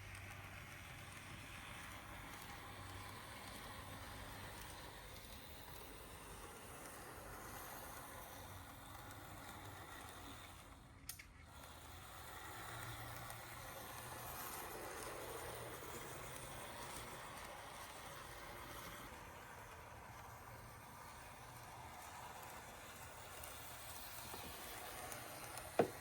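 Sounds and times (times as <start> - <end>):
model locomotive motor whirring: 0.0 - 26.0.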